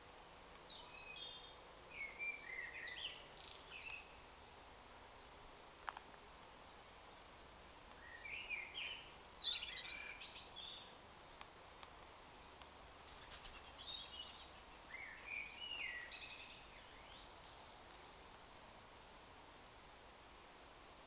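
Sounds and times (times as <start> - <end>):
songbird singing: 0.0 - 19.2
faint steady hiss: 0.0 - 21.0.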